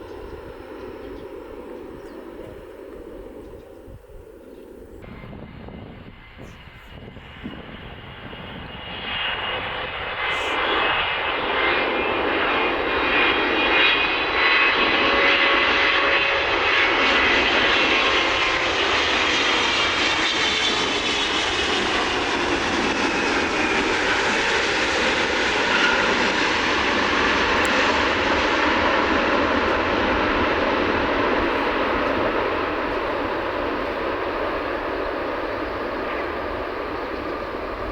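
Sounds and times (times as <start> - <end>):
jet engine whine falling in pitch: 0.0 - 37.9
jet engines roaring: 0.0 - 37.9.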